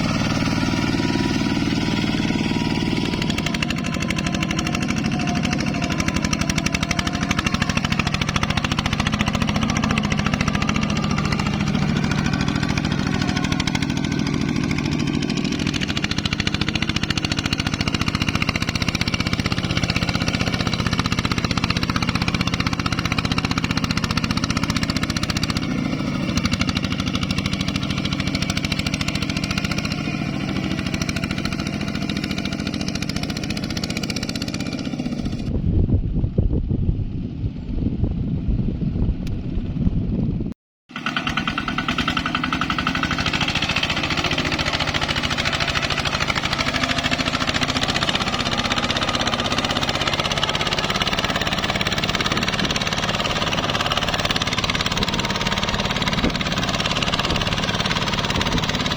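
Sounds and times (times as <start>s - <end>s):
diesel tractor engine thudding: 0.0s - 35.5s, 41.0s - 58.9s.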